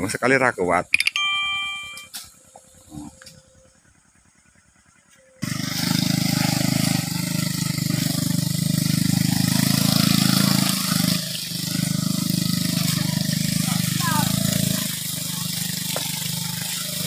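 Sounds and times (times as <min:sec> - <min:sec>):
motorcycle engine under load: 0:00.9 - 0:17.0.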